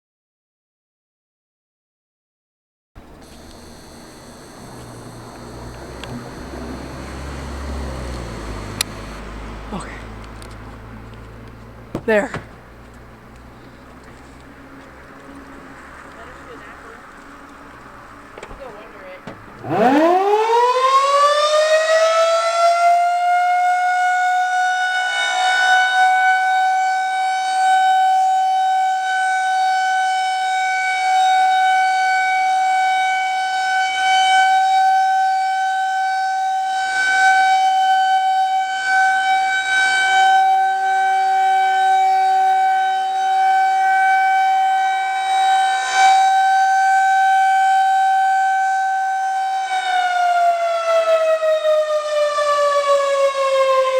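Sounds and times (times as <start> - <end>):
rotating siren alert tone: 3.1 - 10.2, 16.2 - 53.9.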